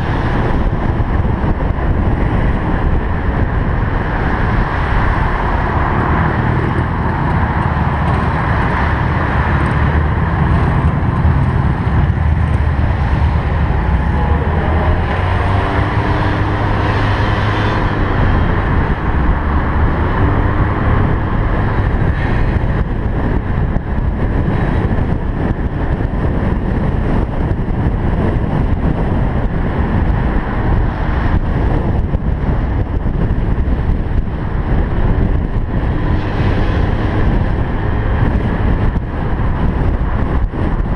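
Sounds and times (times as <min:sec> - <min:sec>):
cars driving by: 0:00.0 - 0:40.9
wind on microphone: 0:00.0 - 0:40.9.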